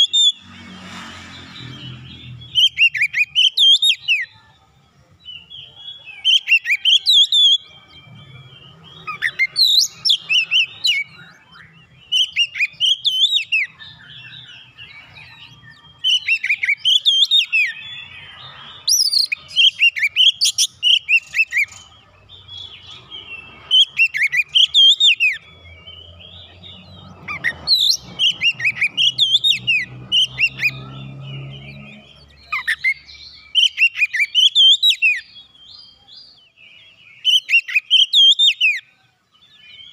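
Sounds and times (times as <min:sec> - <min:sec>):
bird singing whistled notes: 0:01.4 - 0:39.9.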